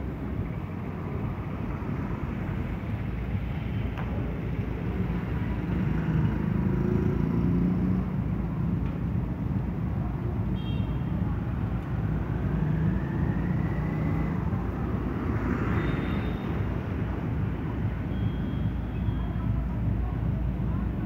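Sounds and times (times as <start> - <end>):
passing motorcycles and cars: 0.0 - 21.0.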